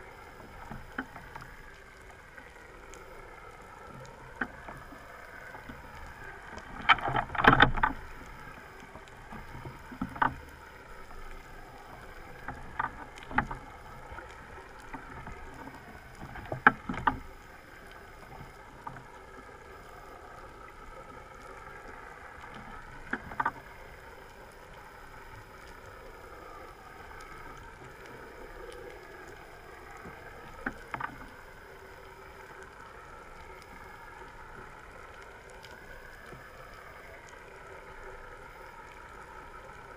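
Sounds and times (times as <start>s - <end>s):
underwater boat engine drone: 0.0s - 39.9s.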